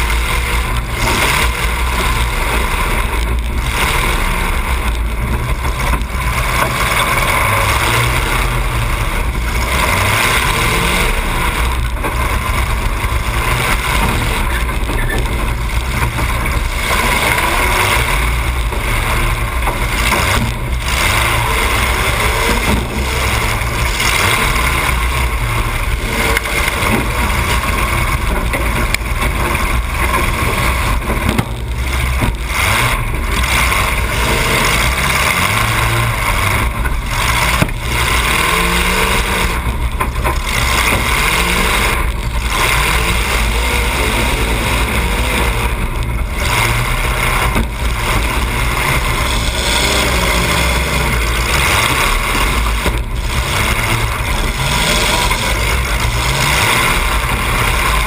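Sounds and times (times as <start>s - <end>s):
loud car engine running: 0.0s - 58.0s.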